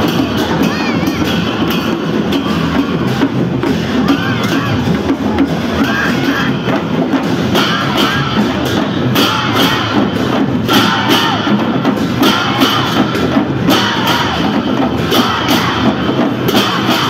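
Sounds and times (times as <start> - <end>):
cymbals clashing: 0.0 - 17.0
drums beating: 0.0 - 17.0
voices shouting: 0.0 - 17.0.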